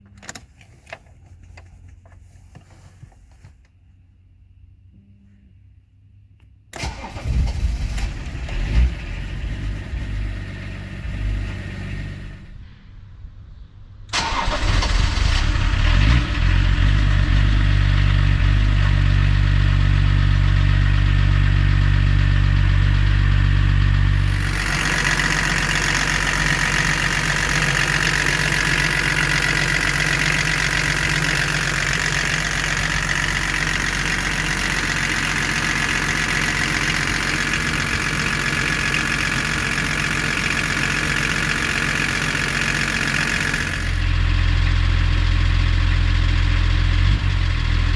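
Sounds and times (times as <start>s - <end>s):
diesel engine idling: 6.8s - 12.5s, 14.1s - 47.9s.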